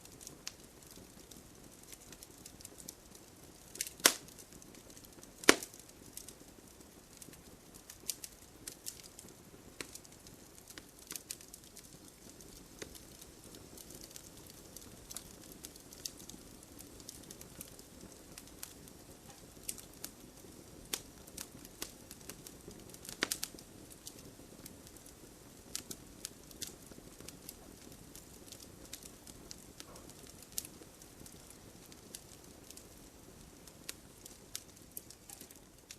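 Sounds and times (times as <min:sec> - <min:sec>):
burning wood popping and snapping: 0:00.0 - 0:35.9
campfire hissing: 0:00.0 - 0:35.9.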